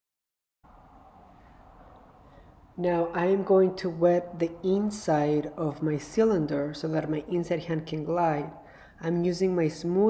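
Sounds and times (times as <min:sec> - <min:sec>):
faint room-tone hiss: 0:00.7 - 0:10.0.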